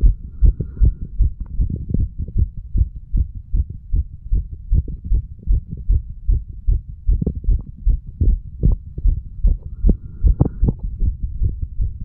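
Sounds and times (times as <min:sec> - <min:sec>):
heartbeat thumps: 0:00.0 - 0:12.0.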